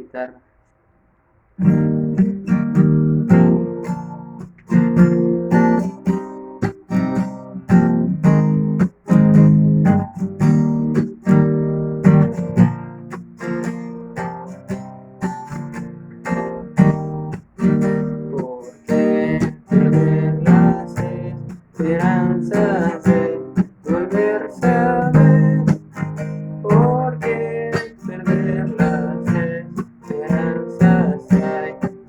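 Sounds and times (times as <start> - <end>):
acoustic guitar strumming chords: 1.6 - 32.0.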